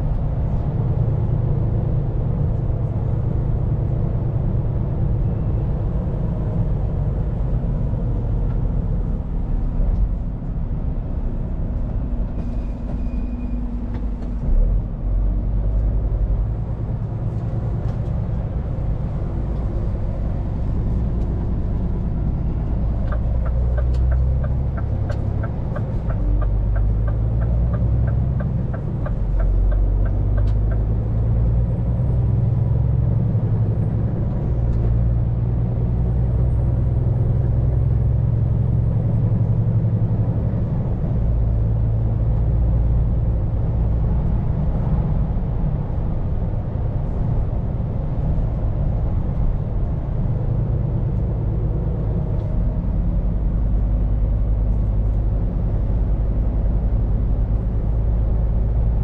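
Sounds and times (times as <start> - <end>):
road noise: 0.0 - 59.0
truck diesel engine droning: 0.0 - 59.0.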